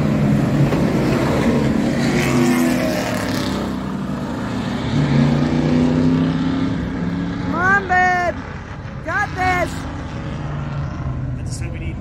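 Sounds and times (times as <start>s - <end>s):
race car engines running: 0.0s - 12.0s.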